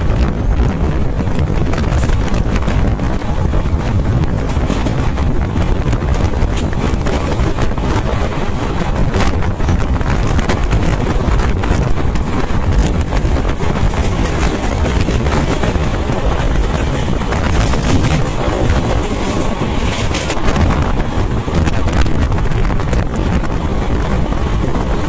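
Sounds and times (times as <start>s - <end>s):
train rumbling at speed: 0.0s - 25.0s
wind buffeting microphone: 0.0s - 25.0s.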